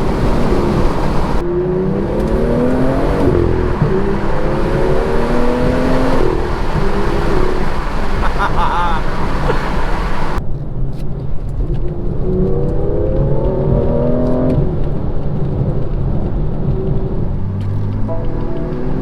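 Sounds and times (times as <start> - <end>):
car engine accelerating hard: 0.0 - 10.4, 11.5 - 19.0.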